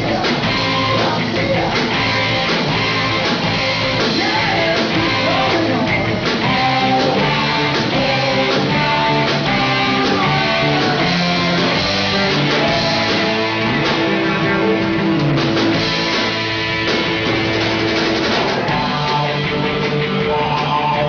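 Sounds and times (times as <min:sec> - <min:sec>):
drums: 0:00.0 - 0:21.0
electric guitars: 0:00.0 - 0:21.0.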